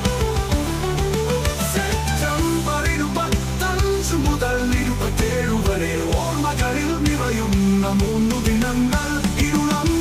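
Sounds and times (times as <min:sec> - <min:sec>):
bass line: 0:00.0 - 0:10.0.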